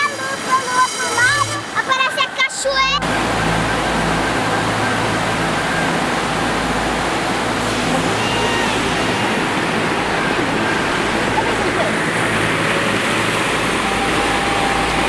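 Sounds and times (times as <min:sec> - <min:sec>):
river rapids roaring: 0:00.0 - 0:15.0.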